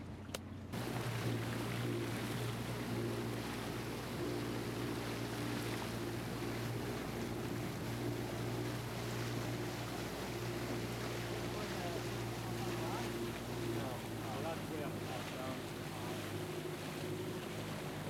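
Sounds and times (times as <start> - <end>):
motorboat engine humming: 0.0 - 18.0
rushing wind and water: 0.0 - 18.0.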